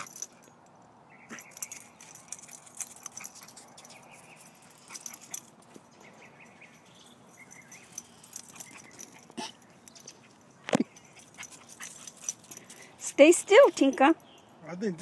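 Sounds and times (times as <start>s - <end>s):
light clicks and jingling: 0.0s - 15.0s.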